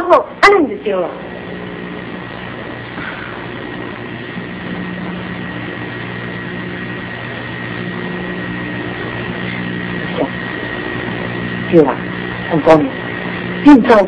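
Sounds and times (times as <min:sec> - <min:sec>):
constant hiss: 0:00.0 - 0:14.0
electrical hum: 0:00.0 - 0:14.0
thin high whine: 0:00.0 - 0:14.0.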